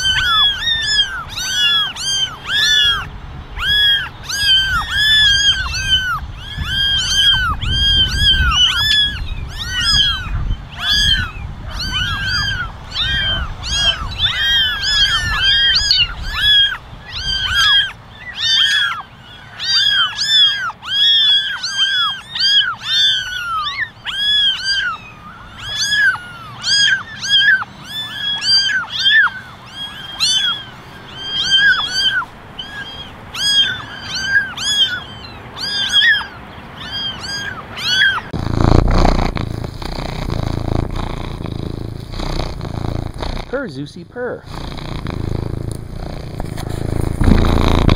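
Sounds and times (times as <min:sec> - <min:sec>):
kittens meowing: 0:00.0 - 0:43.8, 0:44.4 - 0:47.9.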